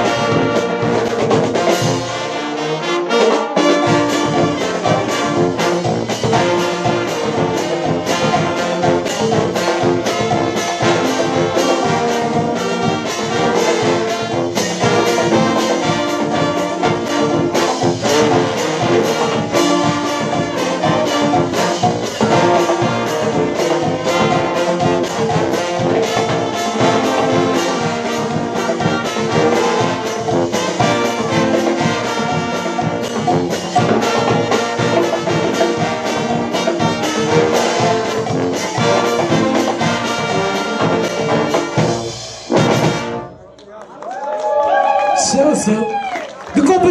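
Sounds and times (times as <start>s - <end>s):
brass band playing: 0.0s - 43.6s, 45.2s - 46.9s
snare and bass drumbeat: 3.5s - 43.2s.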